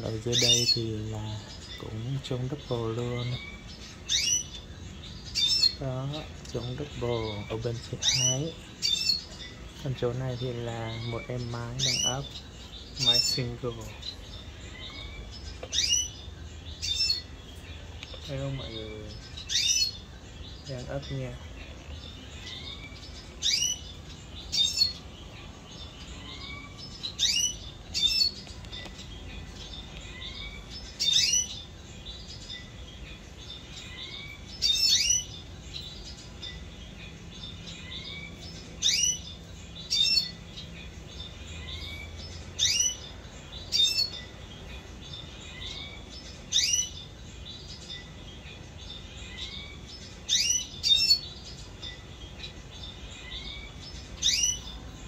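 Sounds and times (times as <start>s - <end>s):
birds chirping sharply: 0.0s - 55.0s
soft rising bird calls: 0.0s - 55.0s.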